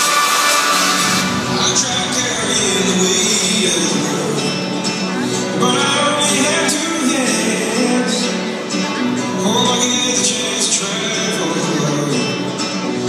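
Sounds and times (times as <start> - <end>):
loud music over sound system: 0.0 - 13.0.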